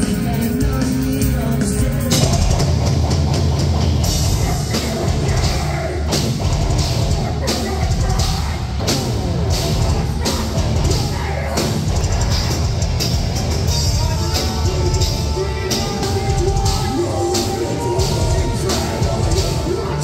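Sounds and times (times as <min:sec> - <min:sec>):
heavy band playing live: 0:00.0 - 0:20.0.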